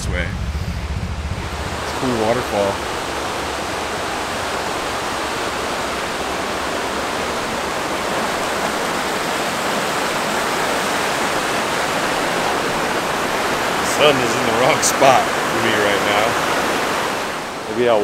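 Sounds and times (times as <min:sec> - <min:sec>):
water rushing over rocks: 0:01.4 - 0:18.0.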